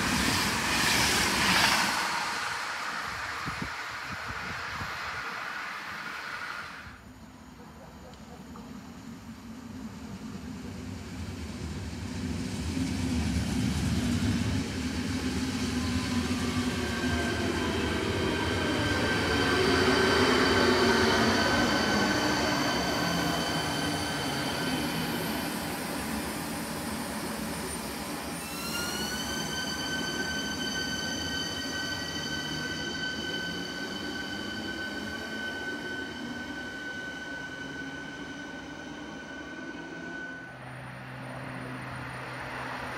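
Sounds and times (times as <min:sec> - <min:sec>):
train running past on track: 0:00.0 - 0:42.9.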